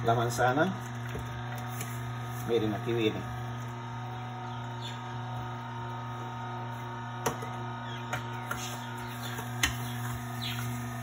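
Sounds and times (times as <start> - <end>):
juicer motor humming: 0.0 - 11.0.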